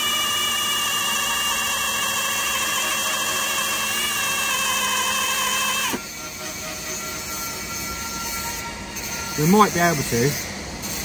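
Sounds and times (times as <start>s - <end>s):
power drill whining under load: 0.0s - 10.3s.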